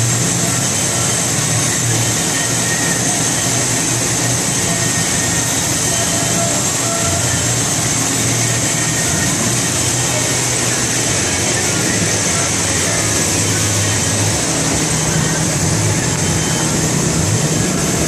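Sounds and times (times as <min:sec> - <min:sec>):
low hum: 0:00.0 - 0:18.0
milling machine whir: 0:00.0 - 0:18.0.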